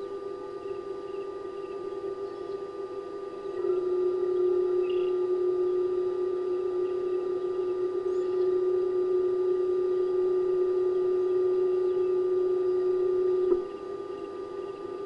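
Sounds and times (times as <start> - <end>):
faint bird chirps: 0.0 - 15.0
steady hum: 0.0 - 15.0.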